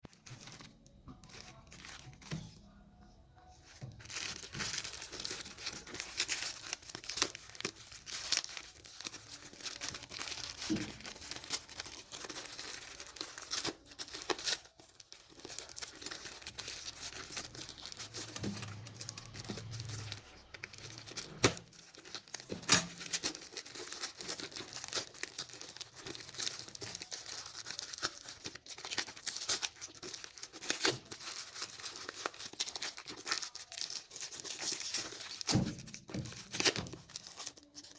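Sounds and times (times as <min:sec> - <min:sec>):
packaging torn and crinkled: 0:04.0 - 0:37.9.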